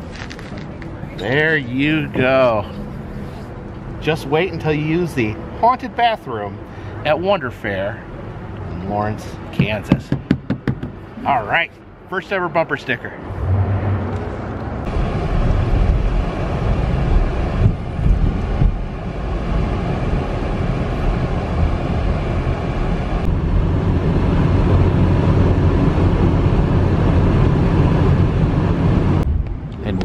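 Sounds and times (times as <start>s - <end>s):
car driving road noise: 0.0s - 30.0s.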